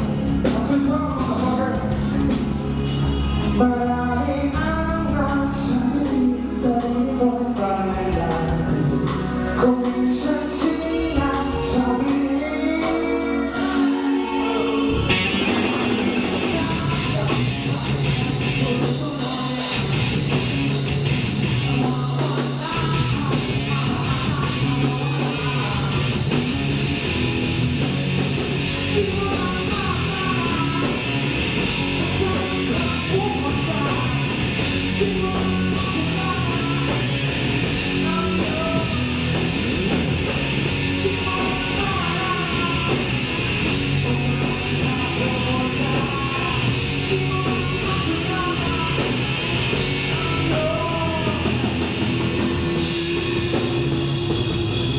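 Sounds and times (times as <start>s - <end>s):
rock band playing: 0.0s - 54.9s.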